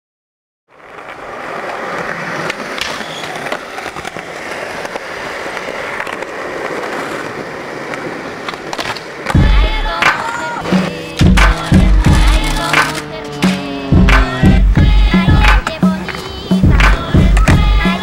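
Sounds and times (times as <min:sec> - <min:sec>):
skateboard clicks and knocks: 0:00.7 - 0:18.0
skateboard wheels rolling on pavement: 0:00.7 - 0:18.0.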